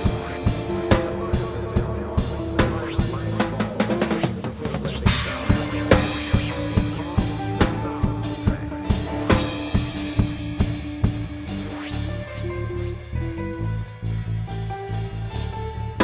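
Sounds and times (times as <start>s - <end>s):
drum kit beat: 0.0s - 16.0s
live band music: 0.0s - 16.0s.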